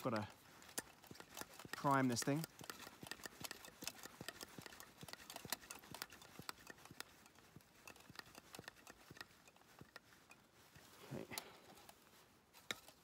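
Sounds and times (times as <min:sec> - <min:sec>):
hand pump clicking: 0:00.0 - 0:12.0.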